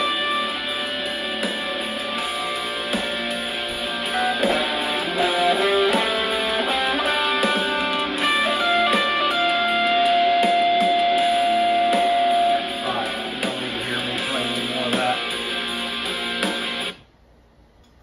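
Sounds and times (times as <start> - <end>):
backing track music: 0.0 - 17.0
electric guitar lead: 0.0 - 17.0.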